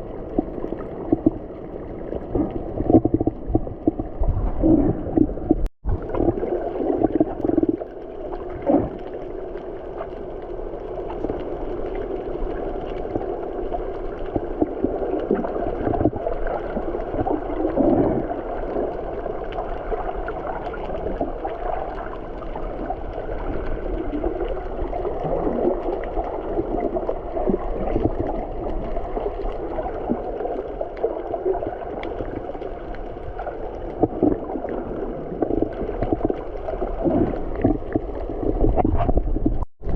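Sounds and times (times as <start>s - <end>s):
water gurgling and rushing: 0.0s - 39.9s.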